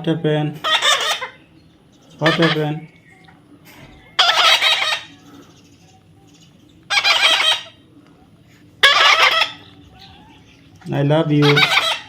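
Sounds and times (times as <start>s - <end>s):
parrot squawking: 0.6s - 12.0s.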